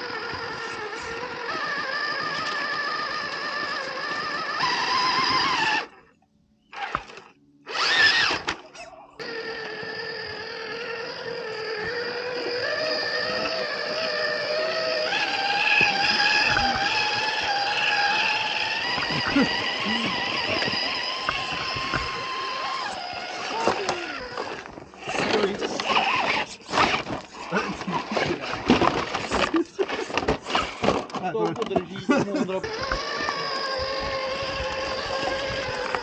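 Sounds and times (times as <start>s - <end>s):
electric motor and gearbox whining: 0.0s - 6.0s, 6.7s - 36.0s.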